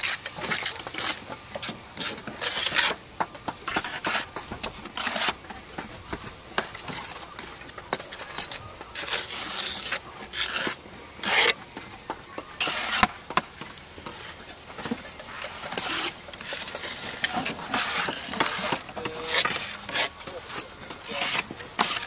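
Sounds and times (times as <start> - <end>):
trowel scraping mortar on tiles: 0.0 - 11.6, 12.4 - 22.0.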